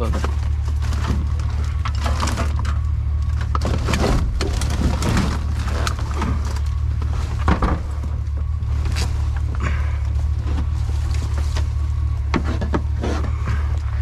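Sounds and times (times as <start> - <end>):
items rustling and clattering: 0.0 - 14.0
low rumble: 0.0 - 14.0.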